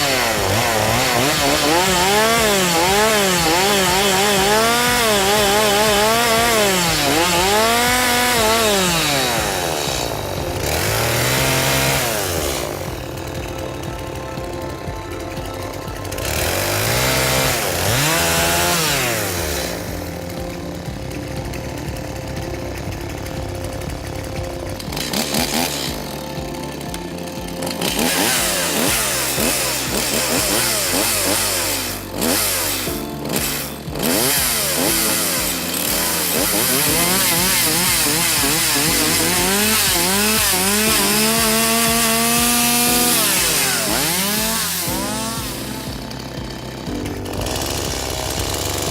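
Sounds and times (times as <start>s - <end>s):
chainsaw engine revving: 0.0s - 48.9s.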